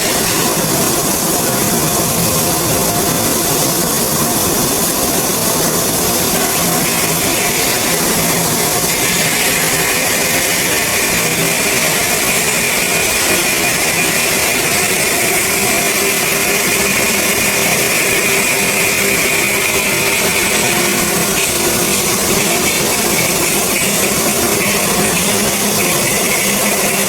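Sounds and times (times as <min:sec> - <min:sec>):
stone-processing machinery running: 0:00.0 - 0:27.0.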